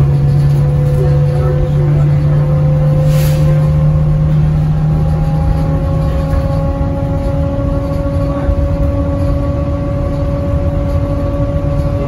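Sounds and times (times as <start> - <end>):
electric traction drive whining: 0.0 - 12.0
low hum: 0.0 - 12.0
road rumble: 0.0 - 12.0.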